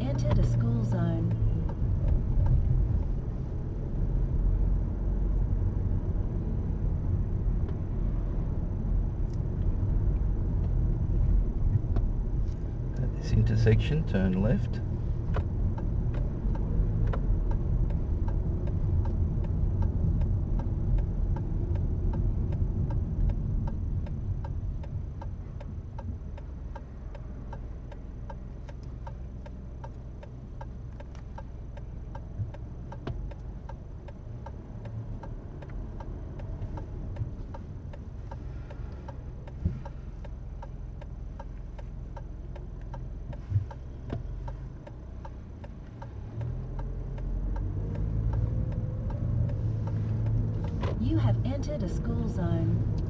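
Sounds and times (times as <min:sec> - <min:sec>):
engine and road rumble: 0:00.0 - 0:53.0
turn signal ticking: 0:00.0 - 0:53.0.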